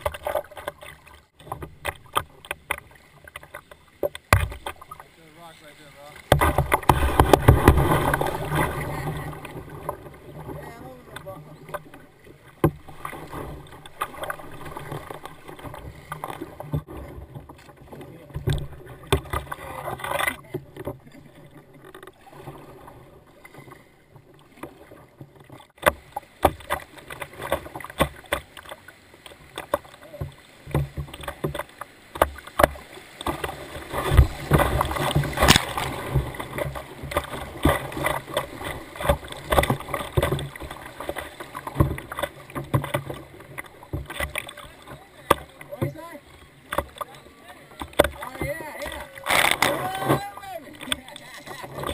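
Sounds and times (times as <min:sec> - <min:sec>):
paddle strokes in water: 0:00.0 - 0:51.9
water rushing and splashing: 0:00.0 - 0:51.9.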